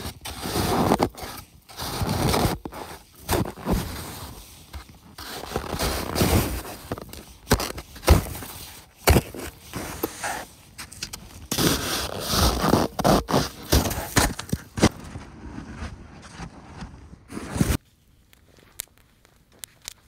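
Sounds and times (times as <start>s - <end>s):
loose snow crunching: 0.0s - 17.8s
snow shovel scraping snow: 0.0s - 17.8s.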